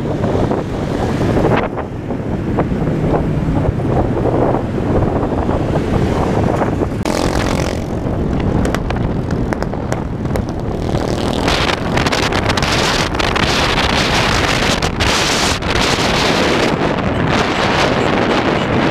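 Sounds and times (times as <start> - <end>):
vehicle engine rumble: 0.0 - 18.9
wind buffeting microphone: 0.0 - 18.9.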